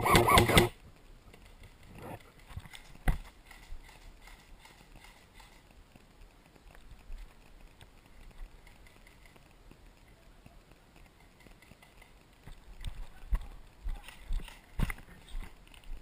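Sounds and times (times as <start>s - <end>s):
faint footsteps: 0.7s - 16.0s.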